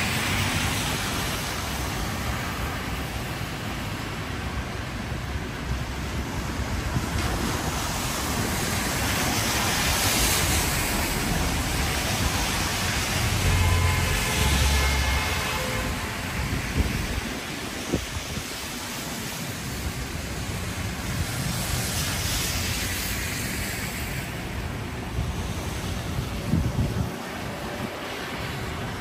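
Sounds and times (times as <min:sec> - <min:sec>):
rain on an umbrella: 0:00.0 - 0:29.0
traffic on wet pavement: 0:00.0 - 0:29.0.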